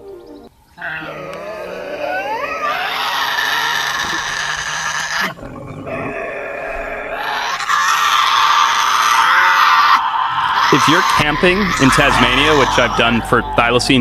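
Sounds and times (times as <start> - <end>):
animal screeching and growling: 0.8 - 14.0.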